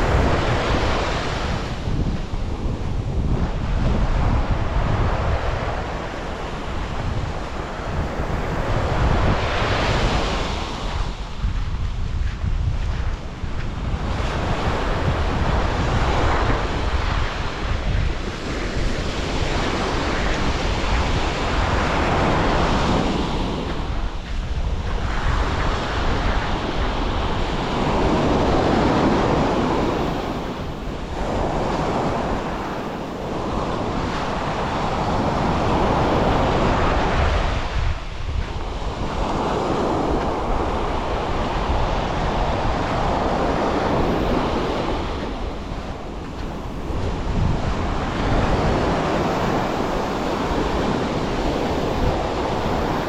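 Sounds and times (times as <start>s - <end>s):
waves breaking on beach: 0.0s - 53.0s
wind rumbling on microphone: 0.0s - 53.0s.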